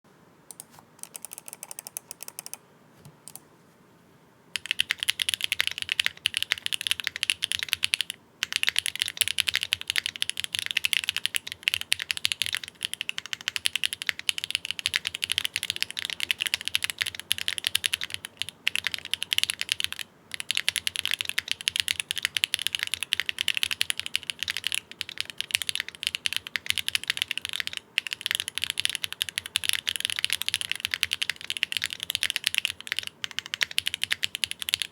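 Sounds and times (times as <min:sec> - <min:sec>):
mechanical keyboard typing: 0:00.5 - 0:02.6, 0:03.2 - 0:03.4, 0:04.6 - 0:34.9.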